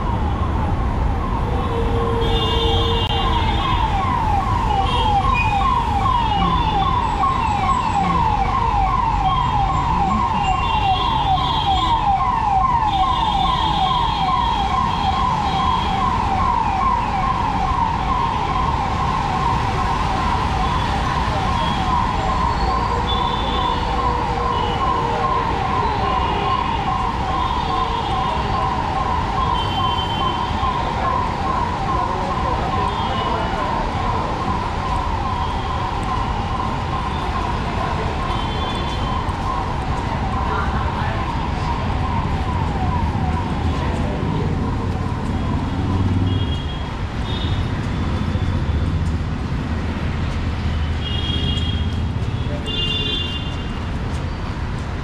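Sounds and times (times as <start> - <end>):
siren in yelp mode: 0.0 - 47.4
street traffic: 0.0 - 55.0.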